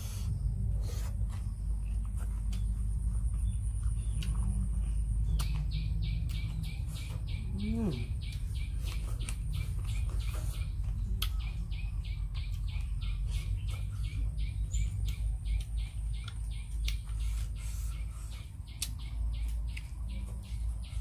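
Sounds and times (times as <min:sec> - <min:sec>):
steady low rumble: 0:00.0 - 0:21.0
bird chirping: 0:00.1 - 0:21.0
sharp eating clicks: 0:01.0 - 0:21.0.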